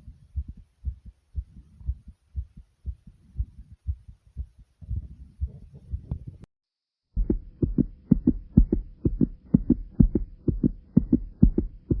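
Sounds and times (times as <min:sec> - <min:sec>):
fast human heartbeat thumps: 0:00.0 - 0:06.5, 0:07.2 - 0:12.0.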